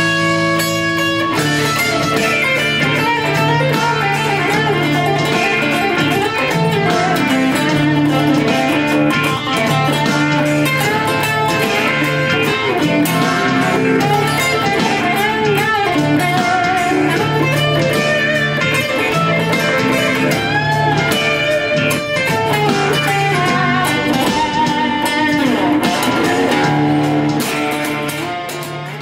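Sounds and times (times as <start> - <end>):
electric guitar lead with bends: 0.0 - 29.0.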